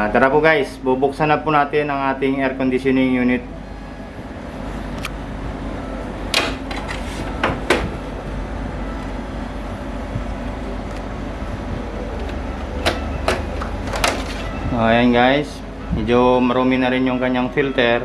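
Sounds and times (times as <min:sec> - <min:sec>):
air conditioner humming: 0:00.0 - 0:18.0.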